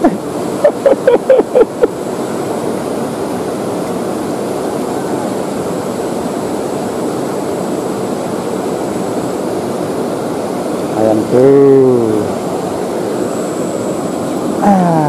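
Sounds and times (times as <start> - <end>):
river water flowing over rocks: 0.0 - 15.0.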